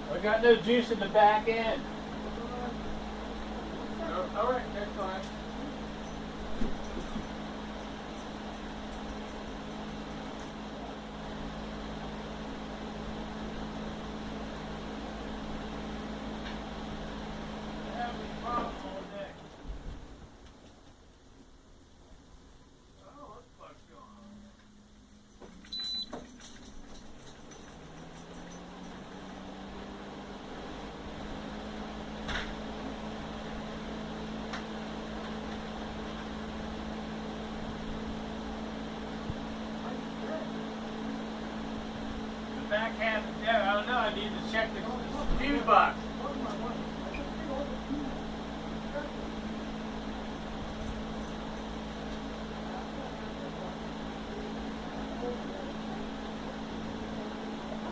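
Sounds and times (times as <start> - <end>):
machine hum with low drone: 0.0 - 57.9.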